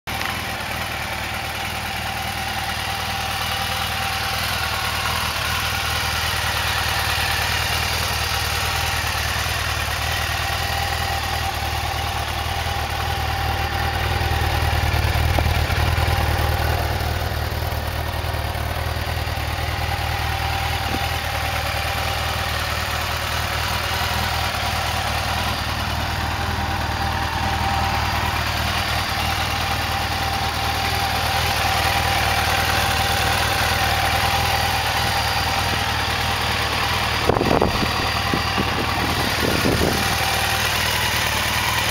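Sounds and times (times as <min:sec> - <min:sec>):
motorcycle engine idling: 0:00.1 - 0:41.9.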